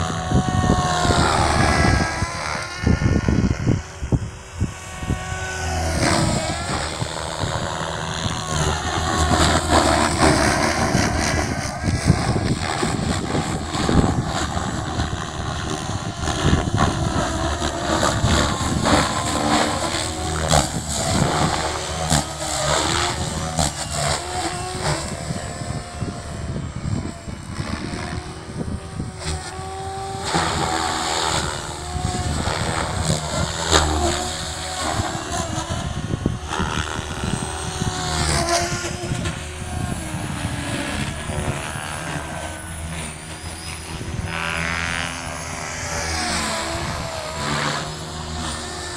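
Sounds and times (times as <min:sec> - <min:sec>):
model helicopter rotor whine: 0:00.0 - 0:48.9.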